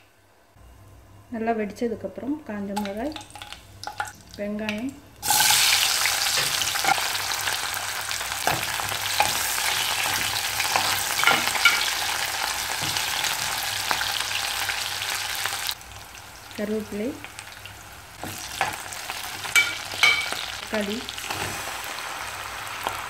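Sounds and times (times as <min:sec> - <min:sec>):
shallots sizzling in hot oil: 0:02.8 - 0:23.0.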